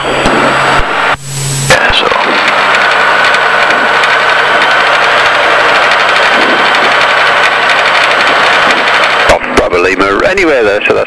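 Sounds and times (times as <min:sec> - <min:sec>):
aircraft cabin drone: 0:00.0 - 0:11.0
faint steady whine: 0:00.0 - 0:11.0.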